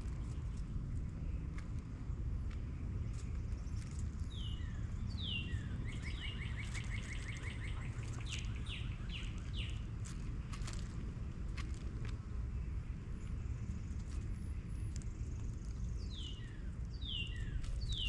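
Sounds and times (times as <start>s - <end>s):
songbird singing: 0.0s - 11.0s, 12.5s - 18.0s
steady low rumble: 0.0s - 18.0s.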